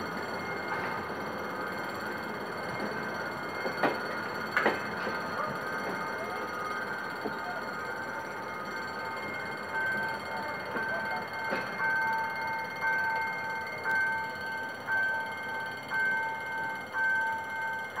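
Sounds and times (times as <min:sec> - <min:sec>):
level crossing alarm ringing: 0:00.0 - 0:18.0.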